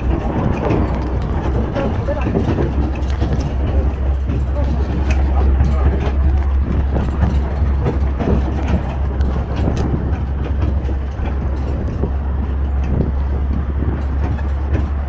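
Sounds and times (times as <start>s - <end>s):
carriage rattling and knocking: 0.0s - 15.0s
low engine drone: 0.0s - 15.0s.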